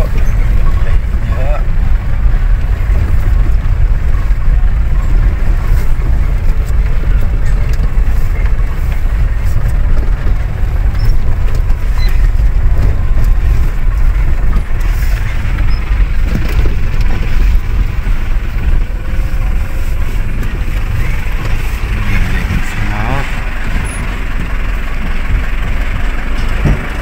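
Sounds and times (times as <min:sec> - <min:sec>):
vehicle driving on rough dirt road: 0:00.0 - 0:27.0.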